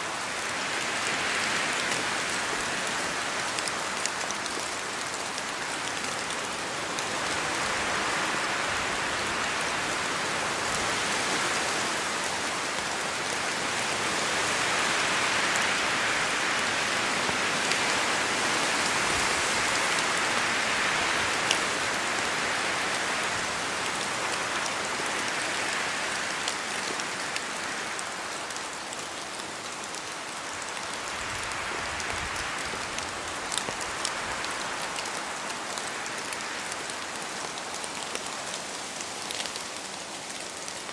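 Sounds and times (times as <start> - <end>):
rain pattering on leaves: 0.0 - 40.9.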